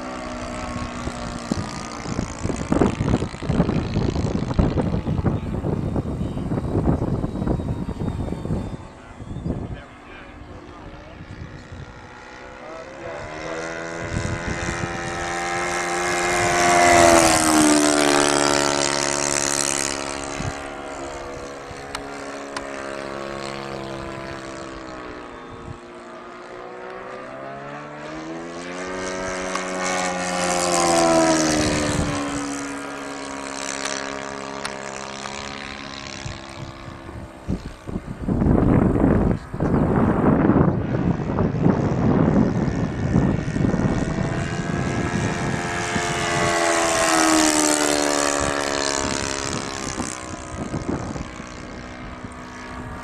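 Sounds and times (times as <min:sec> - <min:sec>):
propeller aircraft flying past: 0:00.0 - 0:53.0.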